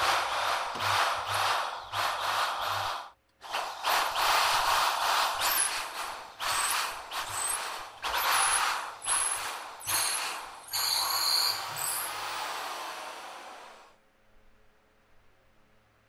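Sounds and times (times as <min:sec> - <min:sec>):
electric drill boring into wood: 0:00.0 - 0:14.0.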